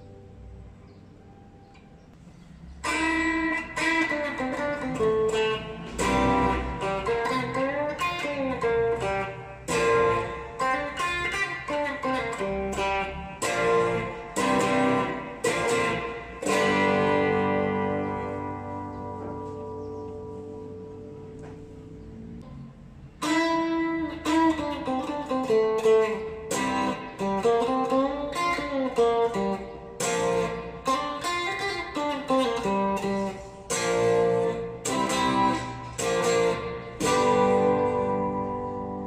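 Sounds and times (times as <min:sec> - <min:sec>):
electric guitar riff: 0:02.8 - 0:39.0.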